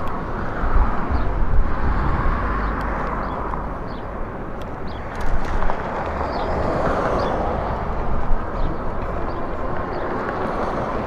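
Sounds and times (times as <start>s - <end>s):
traffic noise: 0.0s - 11.0s
wind and road rush: 0.0s - 11.0s
wind rumble on microphone: 0.0s - 11.0s.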